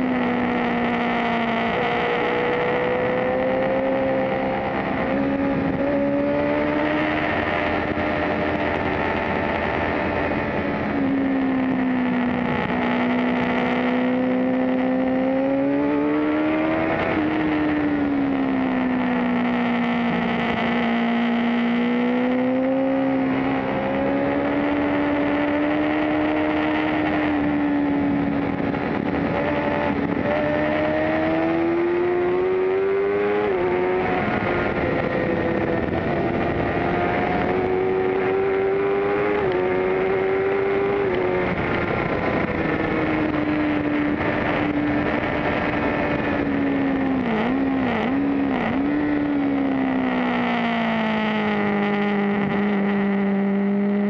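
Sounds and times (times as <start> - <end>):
wind rush: 0.0 - 53.0
motorcycle engine revving: 0.0 - 54.0.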